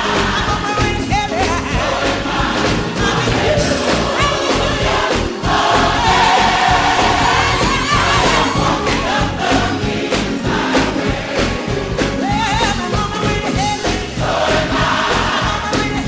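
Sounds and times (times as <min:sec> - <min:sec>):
choir singing over a beat: 0:00.0 - 0:16.0.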